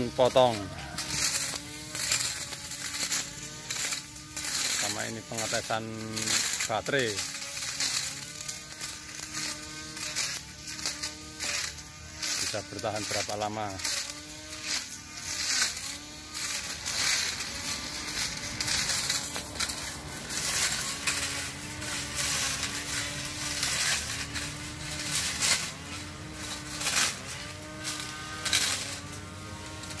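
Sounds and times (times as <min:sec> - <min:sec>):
crackle of shredded leaves: 0:00.0 - 0:30.0
grass trimmer whirring: 0:00.0 - 0:30.0.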